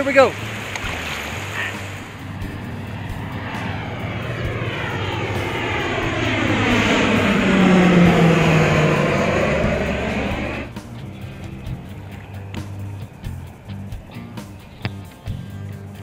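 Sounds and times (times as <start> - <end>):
aircraft flying overhead: 0.0 - 16.0.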